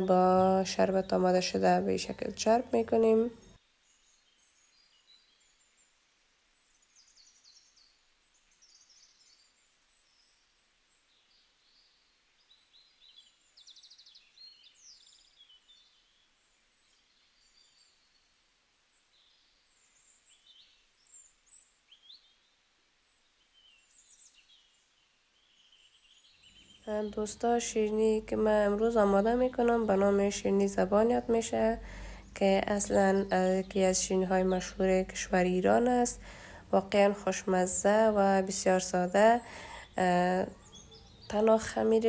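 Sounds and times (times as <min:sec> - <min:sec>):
faint high bird chirps: 0:00.0 - 0:42.0.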